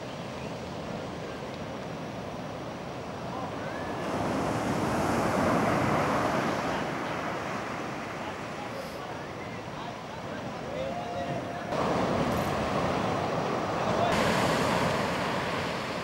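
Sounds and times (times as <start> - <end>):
ocean wave breaking on beach: 0.0 - 16.0.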